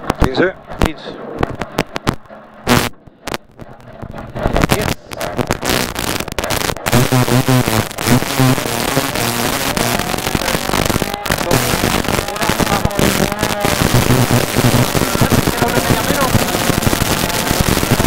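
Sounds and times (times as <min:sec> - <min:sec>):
rapid crackling and popping: 0:00.0 - 0:18.0.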